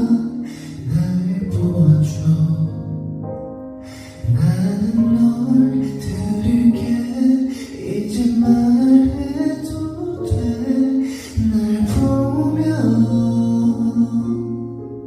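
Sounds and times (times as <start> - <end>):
man singing a slow song: 0.0 - 3.2, 3.8 - 15.0.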